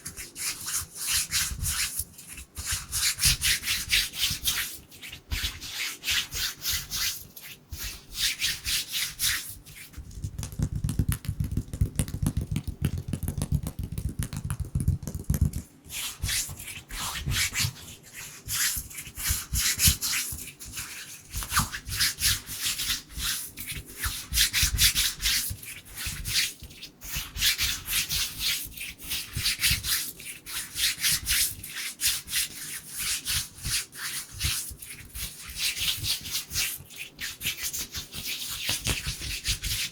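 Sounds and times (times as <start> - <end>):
hands rubbing together: 0.0 - 26.9, 27.6 - 39.9.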